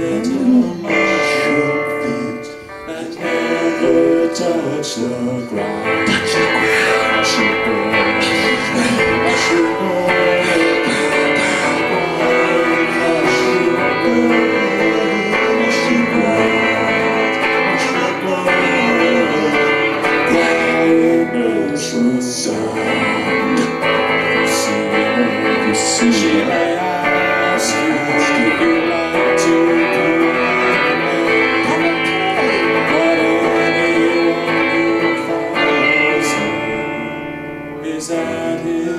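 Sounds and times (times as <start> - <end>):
live band playing guitar song: 0.0 - 38.9.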